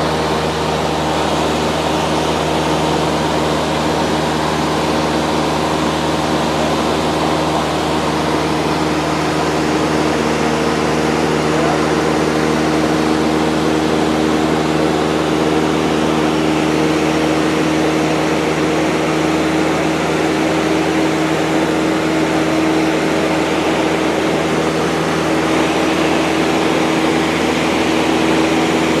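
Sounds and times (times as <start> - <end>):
airplane engine and propeller: 0.0 - 29.0.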